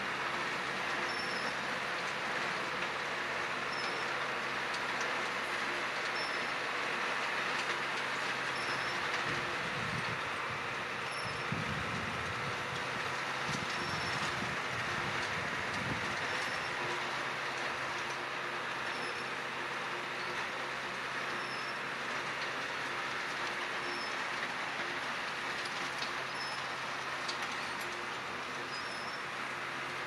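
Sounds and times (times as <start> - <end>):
distant tractor engine humming: 0.1 - 30.0.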